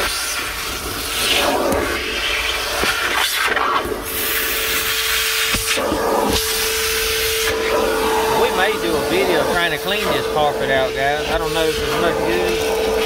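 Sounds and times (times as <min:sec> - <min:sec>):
shop vacuum rushing air: 0:00.0 - 0:13.0
vacuum motor whine: 0:00.0 - 0:13.0.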